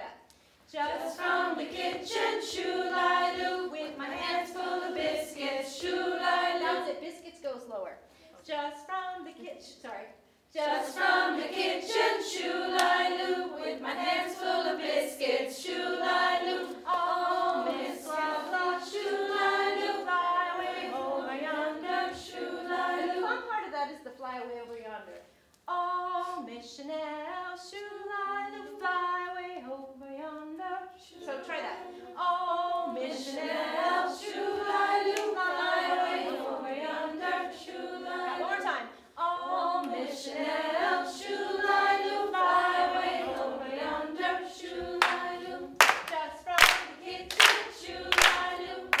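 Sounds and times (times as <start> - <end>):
women singing unaccompanied: 0.7 - 7.0, 10.6 - 23.7, 25.7 - 49.0.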